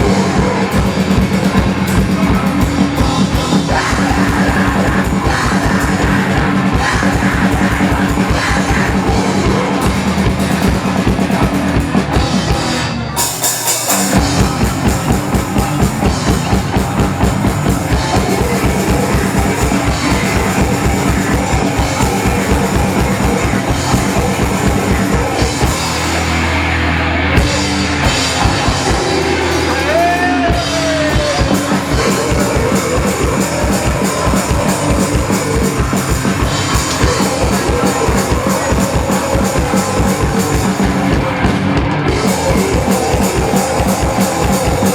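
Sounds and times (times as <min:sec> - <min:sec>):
distorted guitars: 0:00.0 - 0:44.9
fast driving drum beat: 0:00.0 - 0:44.9
rock band playing live: 0:00.0 - 0:44.9.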